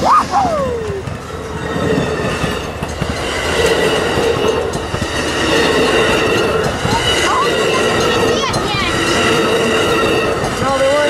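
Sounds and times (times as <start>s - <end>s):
train wheels rumbling on rails: 0.0s - 11.0s
steady ringing tone: 0.6s - 11.0s.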